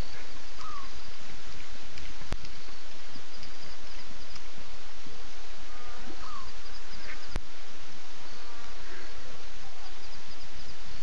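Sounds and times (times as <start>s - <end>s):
insects hissing: 0.0s - 11.0s.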